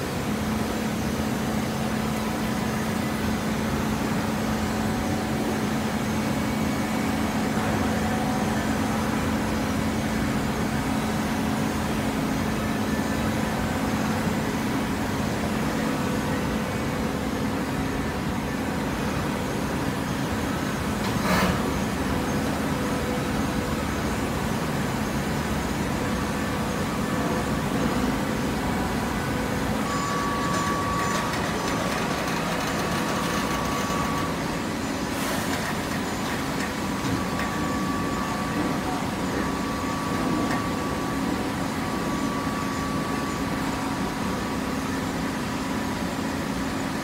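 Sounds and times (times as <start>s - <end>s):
hydraulic baler humming: 0.0s - 47.0s
hydraulic power unit drone: 0.0s - 47.0s.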